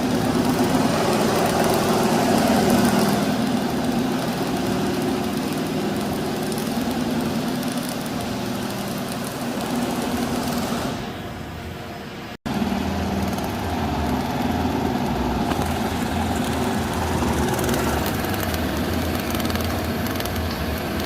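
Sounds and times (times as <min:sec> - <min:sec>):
welding arc buzzing and hissing: 0:00.0 - 0:11.6, 0:12.4 - 0:21.0.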